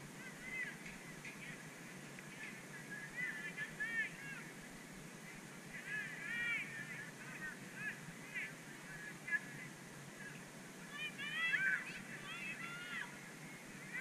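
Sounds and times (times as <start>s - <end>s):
distant geese honking: 0.0s - 14.0s.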